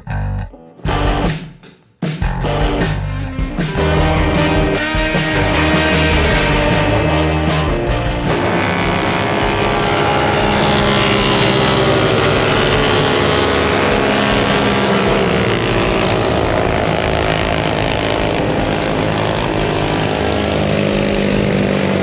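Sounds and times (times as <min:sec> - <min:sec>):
engine droning: 0:02.3 - 0:22.0.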